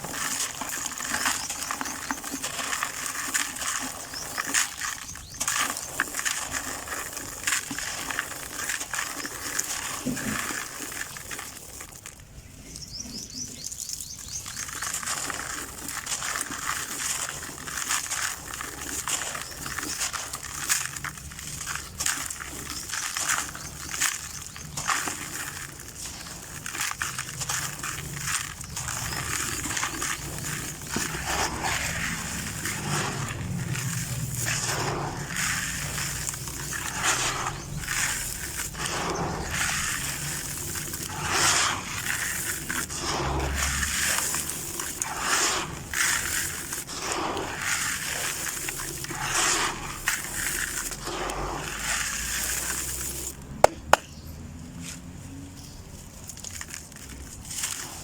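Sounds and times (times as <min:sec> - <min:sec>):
gritty crunching and crackling: 0:00.0 - 0:58.0.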